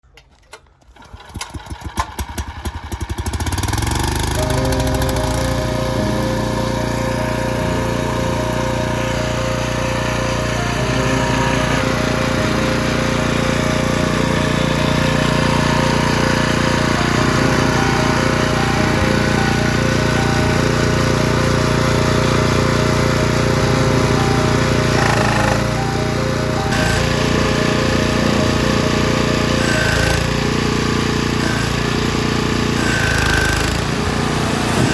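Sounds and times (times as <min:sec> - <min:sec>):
rail grinding machine running: 0:00.9 - 0:34.9.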